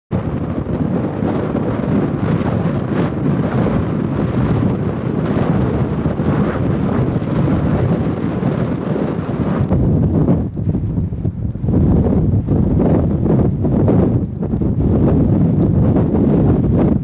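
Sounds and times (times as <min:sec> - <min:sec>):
blizzard wind buffeting microphone: 0:00.1 - 0:17.0.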